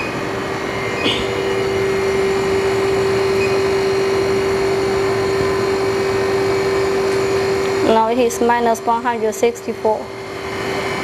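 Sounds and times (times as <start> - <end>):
freezer machinery humming: 0.0 - 11.0.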